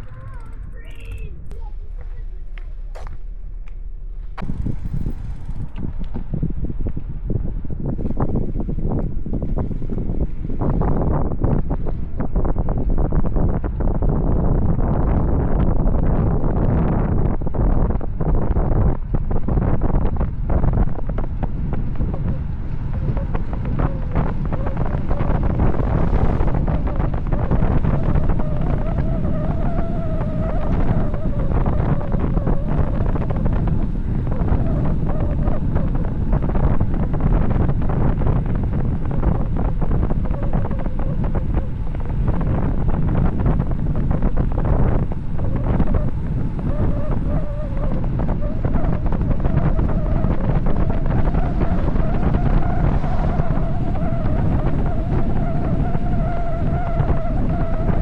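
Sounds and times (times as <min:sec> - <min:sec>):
faint wavering whine: 0:00.0 - 0:58.0
wind rushing over microphone: 0:00.0 - 0:58.0.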